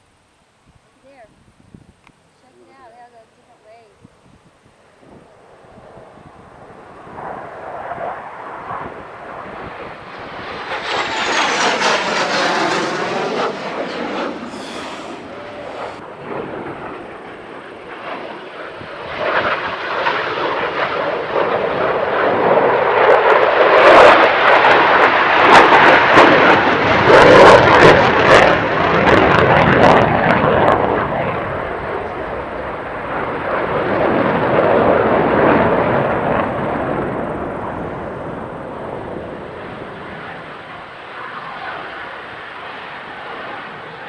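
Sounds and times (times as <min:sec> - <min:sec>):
fighter jets passing overhead: 0:04.8 - 0:44.0.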